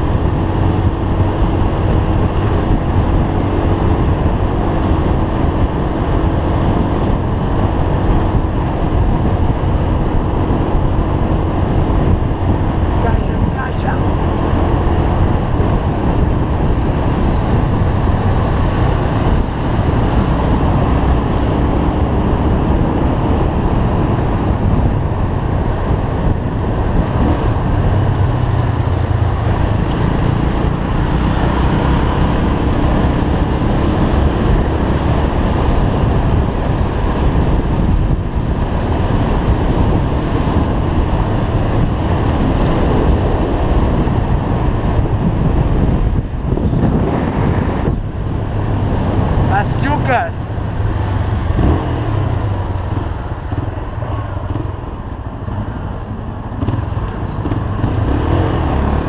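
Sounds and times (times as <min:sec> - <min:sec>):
motorcycle engine: 0:00.0 - 0:59.0
road noise: 0:00.0 - 0:59.0
wind rushing on microphone: 0:00.0 - 0:59.0.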